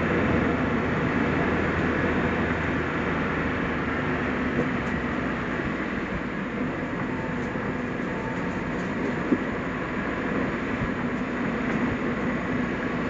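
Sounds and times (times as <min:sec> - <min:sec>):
car engine drone: 0:00.0 - 0:13.0
tyre and road rumble: 0:00.0 - 0:13.0.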